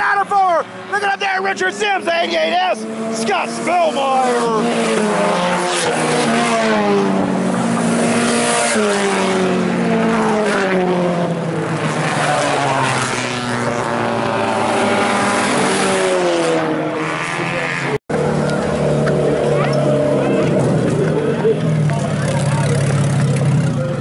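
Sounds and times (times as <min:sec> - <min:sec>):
race car engines passing by: 0:00.0 - 0:24.0.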